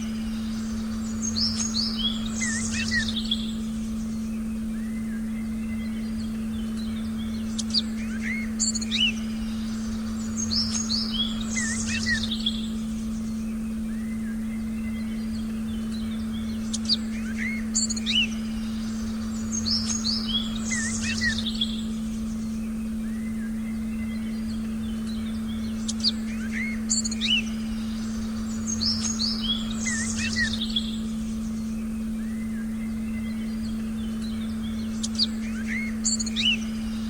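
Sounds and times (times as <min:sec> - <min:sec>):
birds chirping and whistling: 0:00.0 - 0:37.0
steady low synthesized tone: 0:00.0 - 0:37.0.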